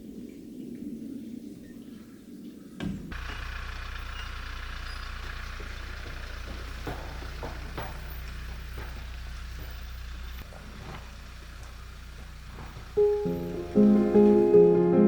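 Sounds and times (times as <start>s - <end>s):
truck engine starting and idling: 2.8s - 15.0s.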